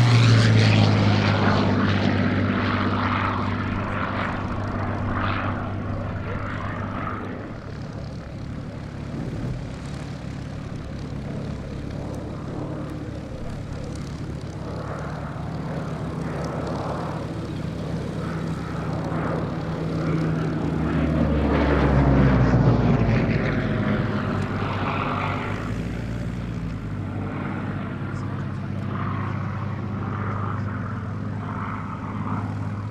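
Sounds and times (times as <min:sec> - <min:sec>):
propeller aircraft flying past: 0:00.0 - 0:32.9.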